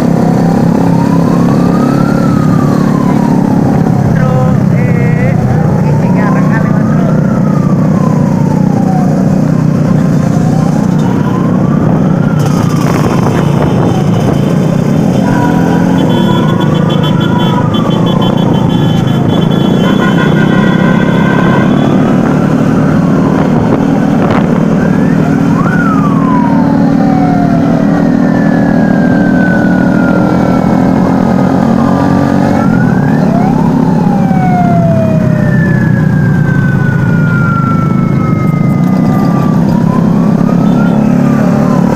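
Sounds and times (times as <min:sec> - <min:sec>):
sirens wailing: 0:00.0 - 0:41.9
vehicle engines droning: 0:00.0 - 0:41.9.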